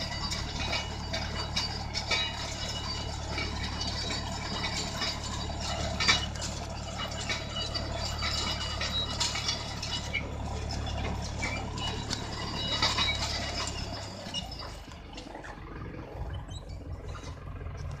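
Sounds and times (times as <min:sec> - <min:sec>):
machine clattering and rattling: 0:00.0 - 0:18.0
tractor diesel engine running: 0:00.0 - 0:18.0.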